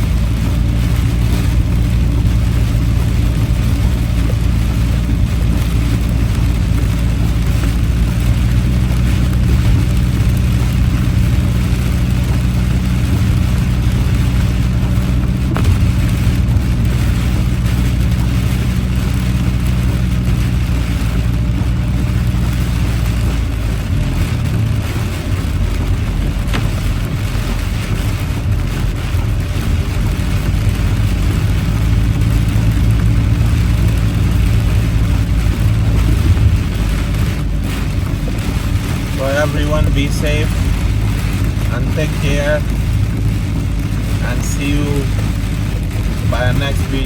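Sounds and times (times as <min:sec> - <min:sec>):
car engine drone: 0:00.0 - 0:47.0
road noise hiss: 0:00.0 - 0:47.0.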